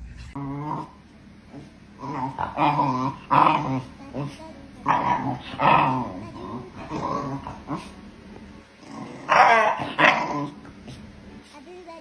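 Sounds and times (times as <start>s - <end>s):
dog growling and whining: 0.0s - 8.0s, 8.8s - 11.0s.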